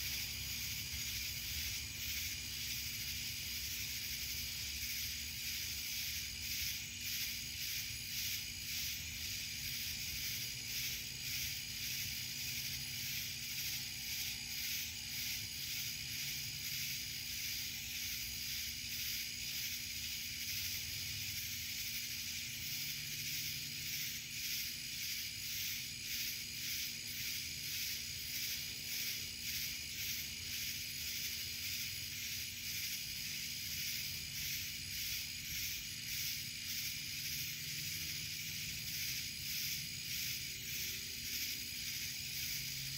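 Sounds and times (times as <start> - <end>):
night insects droning: 0.0 - 42.9.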